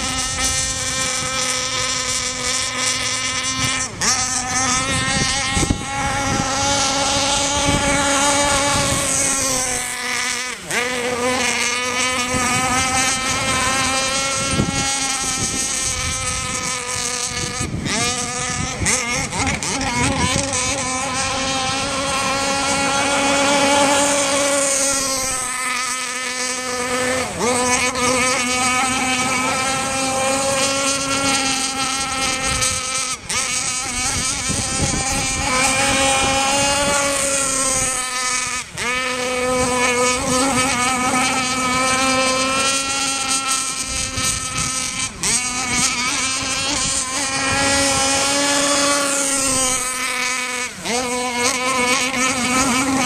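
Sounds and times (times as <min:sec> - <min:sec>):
model boat engine buzzing: 0:00.0 - 0:53.0.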